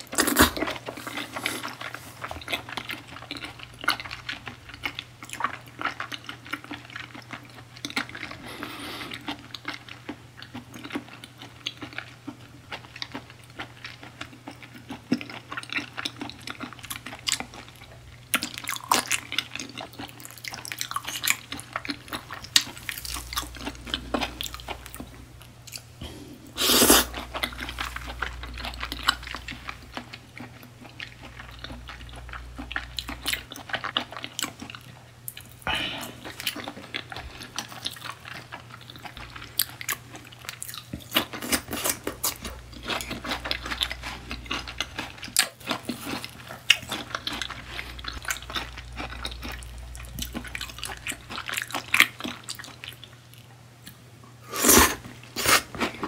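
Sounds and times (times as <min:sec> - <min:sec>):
wet chewing and mouth smacking: 0:00.0 - 0:26.0, 0:26.6 - 0:54.0.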